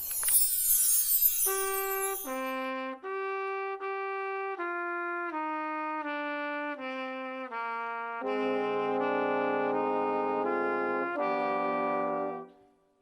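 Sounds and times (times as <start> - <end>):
brass instruments playing slow melody: 1.5 - 12.6.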